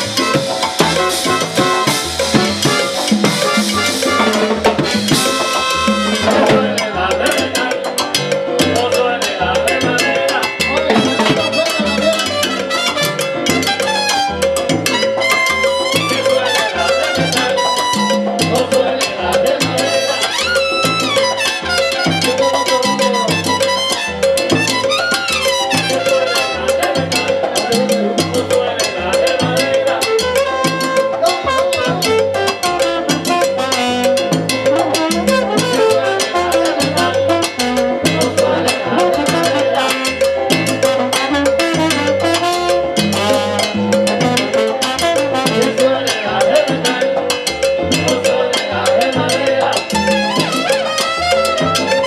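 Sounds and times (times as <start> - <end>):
salsa band playing: 0.0 - 52.0.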